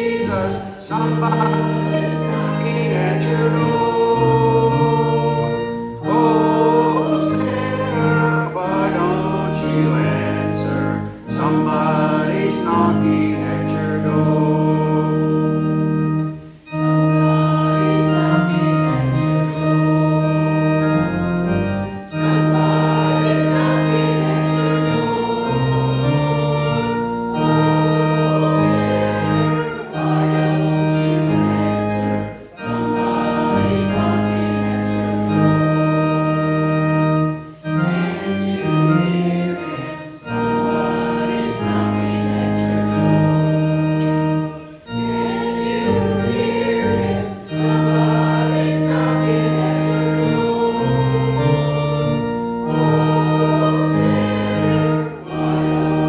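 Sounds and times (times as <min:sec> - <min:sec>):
organ playing a hymn: 0:00.0 - 0:56.0.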